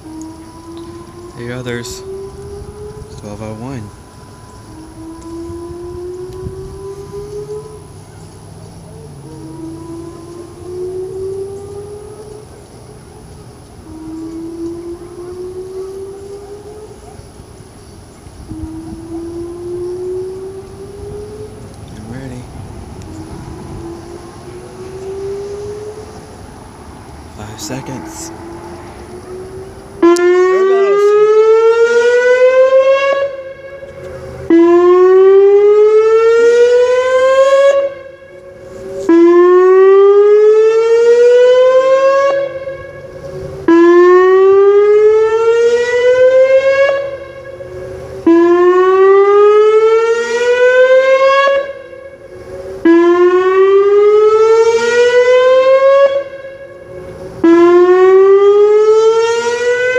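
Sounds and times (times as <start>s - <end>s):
outdoor warning siren rising: 0.0s - 59.9s.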